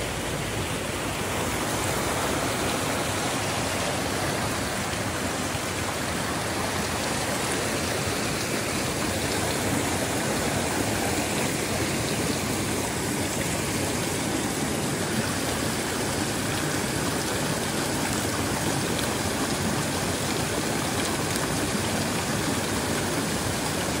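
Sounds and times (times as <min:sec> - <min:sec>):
water rushing along a stream: 0:00.0 - 0:24.0.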